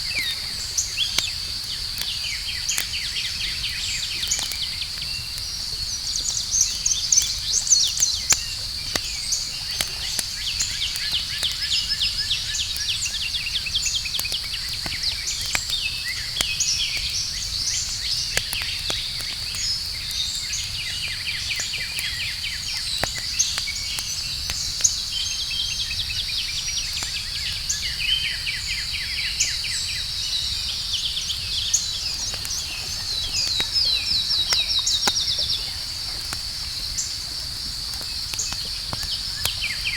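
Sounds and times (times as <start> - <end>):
campfire crackling and popping: 0.0 - 39.9
night insects chirring: 0.0 - 39.9.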